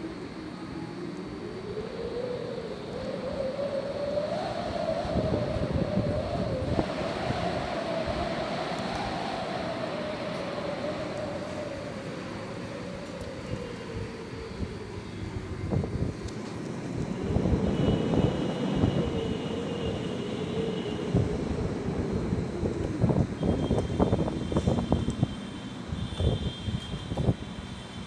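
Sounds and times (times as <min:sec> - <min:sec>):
wind howling: 0:00.0 - 0:27.4.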